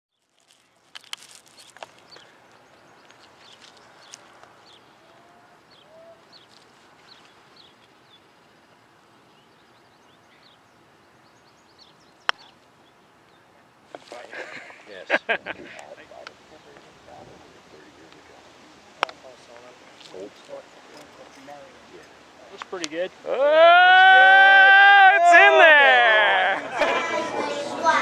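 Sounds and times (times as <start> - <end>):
small birds chirping: 0.1 - 23.2.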